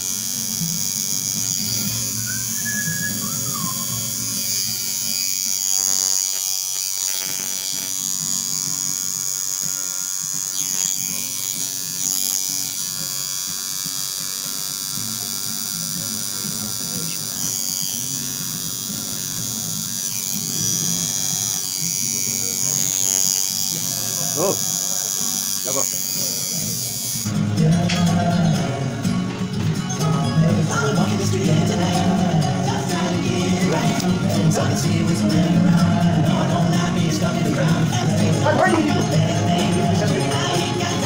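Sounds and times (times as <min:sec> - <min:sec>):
tattoo machine buzzing: 0:00.0 - 0:41.0.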